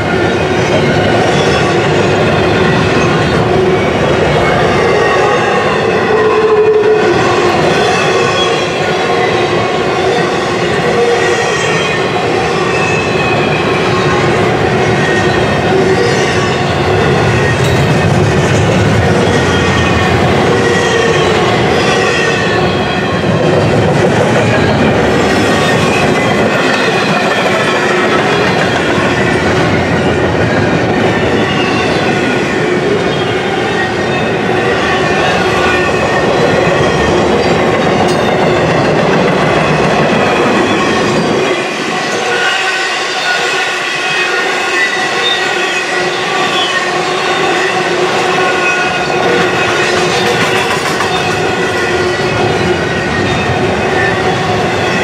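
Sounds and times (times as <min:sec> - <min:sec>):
steel wheels rolling on rail: 0:00.0 - 0:55.0.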